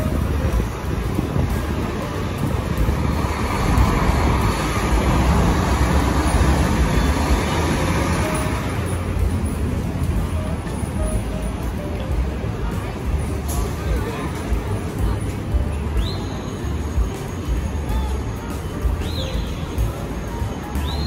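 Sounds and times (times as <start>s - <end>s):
traffic rushing: 0.0s - 21.0s.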